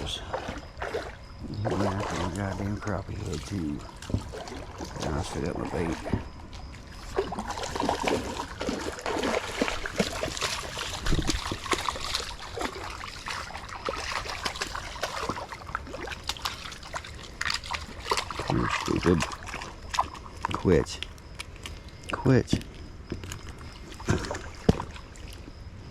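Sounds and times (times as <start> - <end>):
water trickling and splashing: 0.0 - 25.9.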